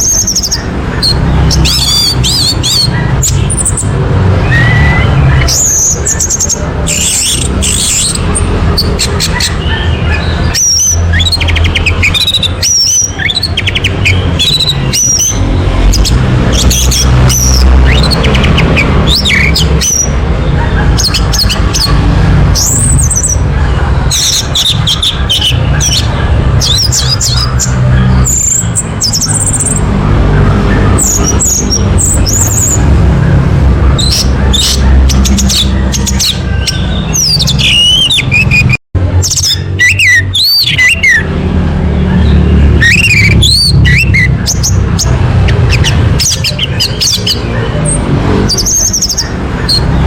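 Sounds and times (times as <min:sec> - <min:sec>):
thrush singing: 0:00.0 - 0:50.0.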